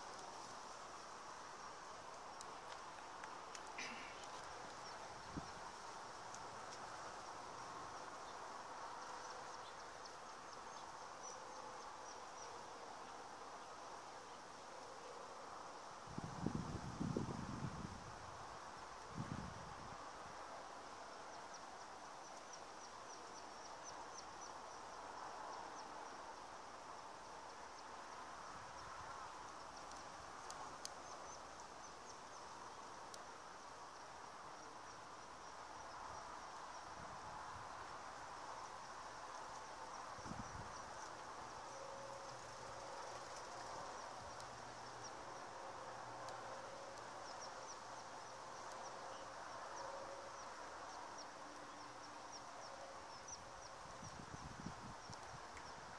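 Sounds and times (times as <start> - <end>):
insect chirping trills: 0.0 - 55.9
low outdoor background: 0.0 - 55.9.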